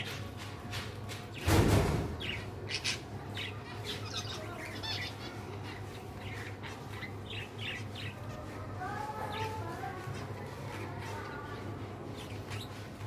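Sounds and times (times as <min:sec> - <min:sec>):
finches chirping and squawking: 0:00.0 - 0:13.0.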